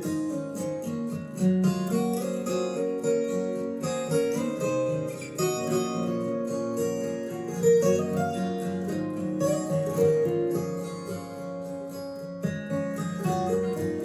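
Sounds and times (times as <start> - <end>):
acoustic guitar: 0.0 - 14.0.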